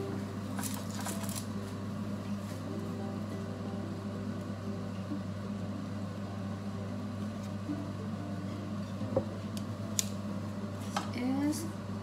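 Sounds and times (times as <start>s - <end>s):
kitchen appliance humming: 0.0s - 12.0s.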